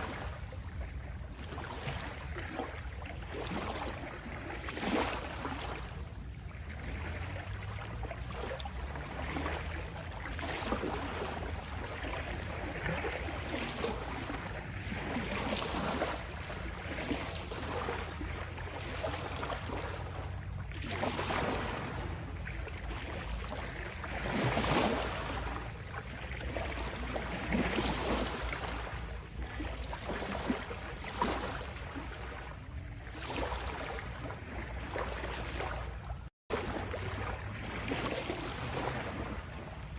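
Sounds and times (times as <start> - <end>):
low rumble of sea: 0.0 - 39.9
small waves lapping on shore: 0.0 - 39.9.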